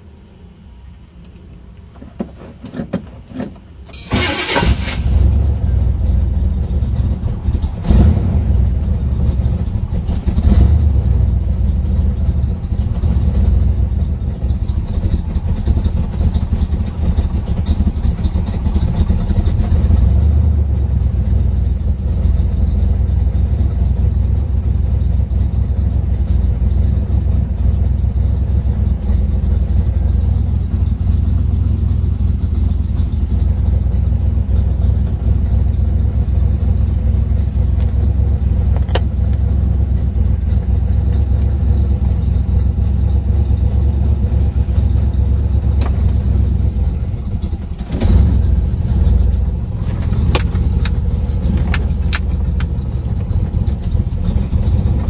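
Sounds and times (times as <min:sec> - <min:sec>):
car engine deep rumble: 0:00.0 - 0:55.0.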